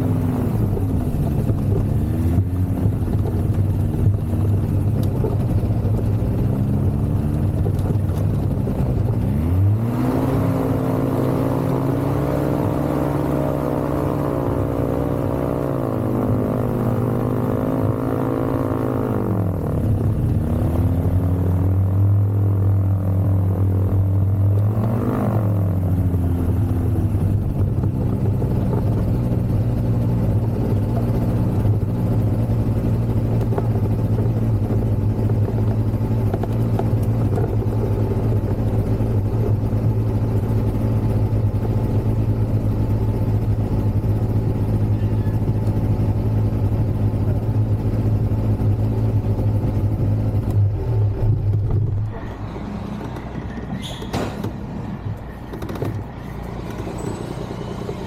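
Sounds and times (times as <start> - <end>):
ultralight aircraft engine humming: 0.0 - 58.0.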